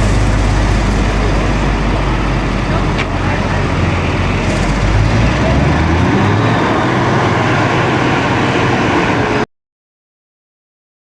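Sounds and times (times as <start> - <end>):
diesel engine running under load: 0.0 - 9.5.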